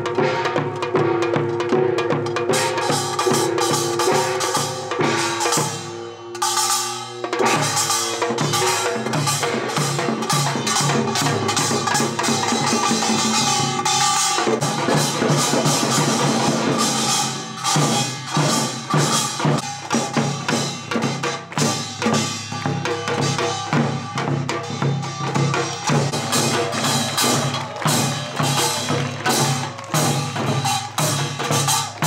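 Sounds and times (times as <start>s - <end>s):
drum strokes: 0.0s - 32.0s
music with drum beat: 0.0s - 32.0s.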